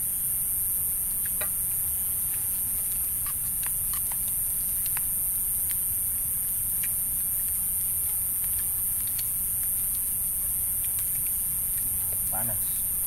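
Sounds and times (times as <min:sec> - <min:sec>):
high hiss: 0:00.0 - 0:13.0.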